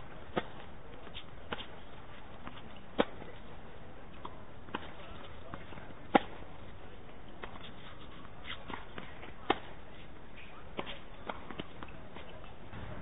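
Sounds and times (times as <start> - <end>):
racket hitting tennis ball: 0.1 - 6.8, 7.4 - 9.9, 10.7 - 13.0.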